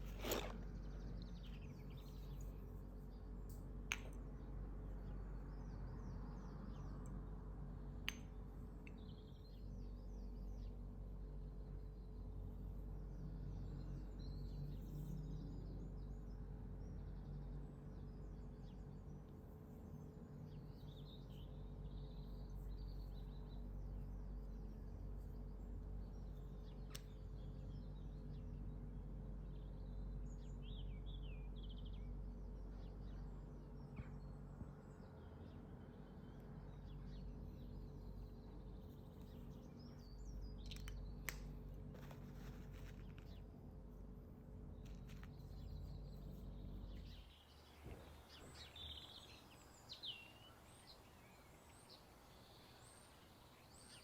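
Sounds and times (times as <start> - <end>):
birds chirping faintly: 0.0 - 54.0
low steady hum: 0.0 - 54.0.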